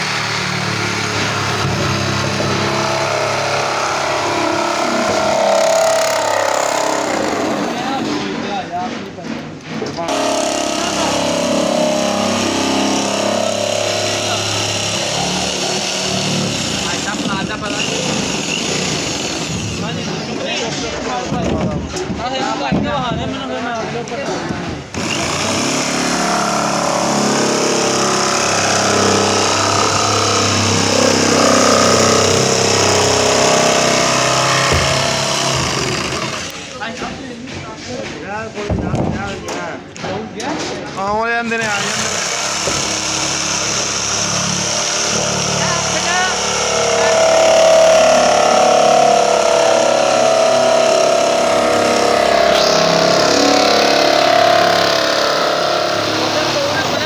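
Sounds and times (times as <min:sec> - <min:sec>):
jigsaw sawing plastic: 0:00.0 - 0:22.4, 0:24.0 - 0:37.0, 0:41.5 - 0:57.0.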